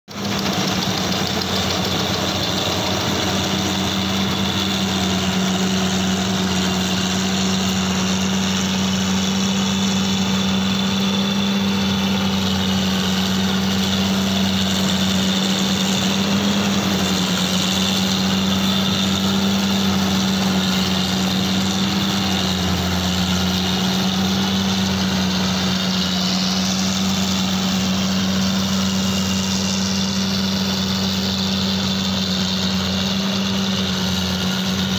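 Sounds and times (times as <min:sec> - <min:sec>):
combine harvester engine running: 0:00.1 - 0:34.9.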